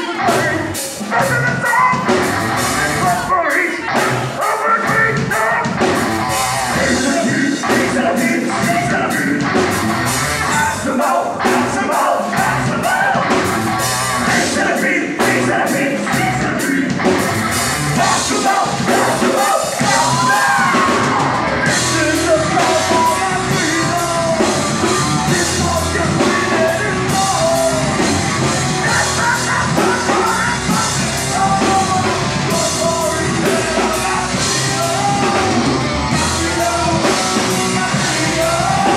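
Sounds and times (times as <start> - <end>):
bass guitar: 0.0 - 38.9
distorted guitars: 0.0 - 38.9
drums: 0.0 - 38.9
sung and yelled vocals: 0.0 - 38.9.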